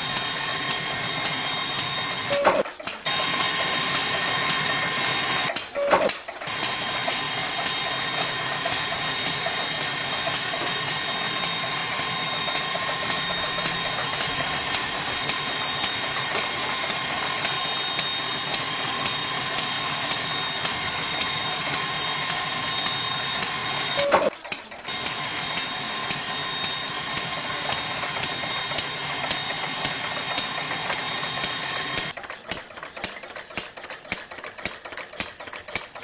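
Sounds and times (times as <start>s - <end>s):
small gear motor whining: 0.0s - 32.2s.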